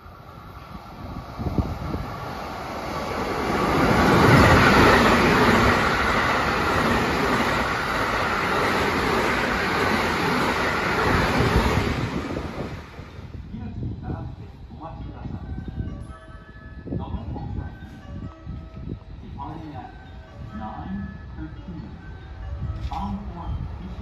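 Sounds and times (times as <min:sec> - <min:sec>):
train passing at high speed: 0:00.0 - 0:24.0.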